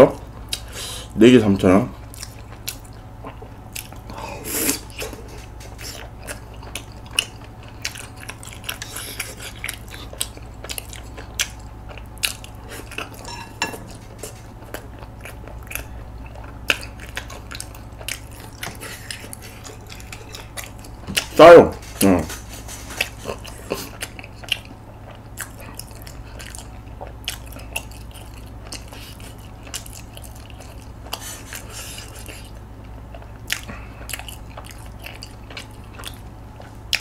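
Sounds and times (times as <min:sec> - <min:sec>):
steady low hum: 0:00.0 - 0:37.0
person chewing: 0:00.5 - 0:01.1, 0:02.0 - 0:37.0.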